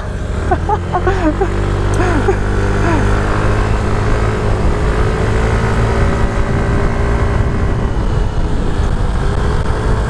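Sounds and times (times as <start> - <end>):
scooter engine running: 0.0 - 10.0
wind and road noise: 0.0 - 10.0.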